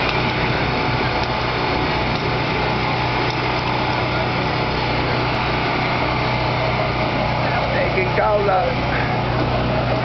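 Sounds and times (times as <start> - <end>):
juice press motor droning: 0.0 - 10.0
street chatter: 0.0 - 10.0.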